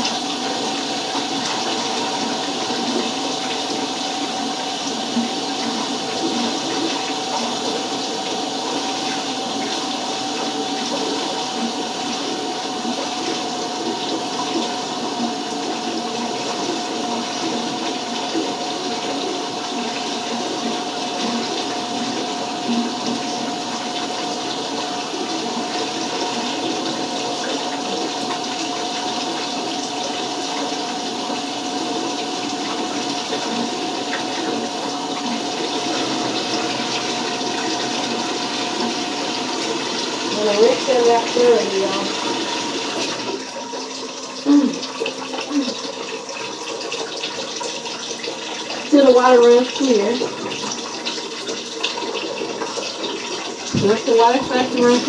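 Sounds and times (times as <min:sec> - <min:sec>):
water running: 0:00.0 - 0:55.0.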